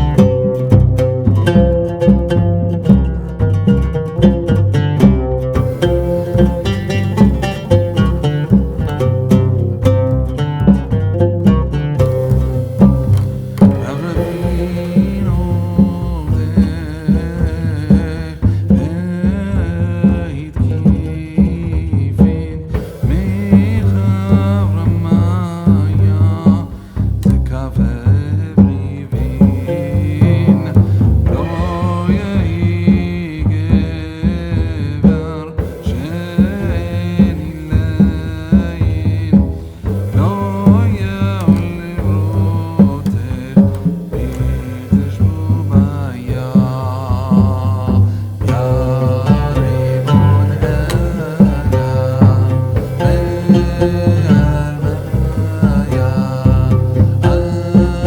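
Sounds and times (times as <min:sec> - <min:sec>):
deep bass line: 0:00.0 - 0:58.0
steady drum beat: 0:00.0 - 0:58.0
person singing with pitch bends: 0:05.6 - 0:58.0.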